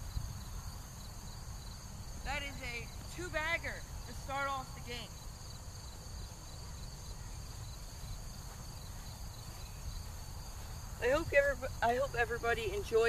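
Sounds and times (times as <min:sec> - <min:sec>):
insect chorus shrilling: 0:00.0 - 0:13.0.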